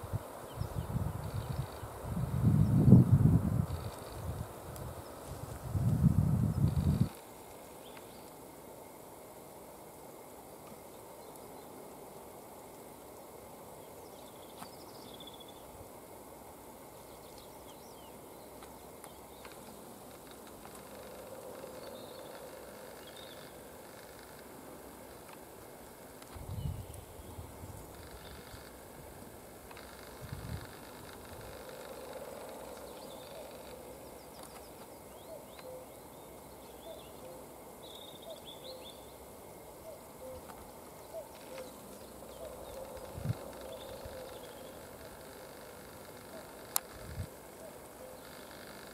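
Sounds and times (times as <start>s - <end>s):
songbird singing: 0.0s - 9.0s, 10.6s - 48.9s.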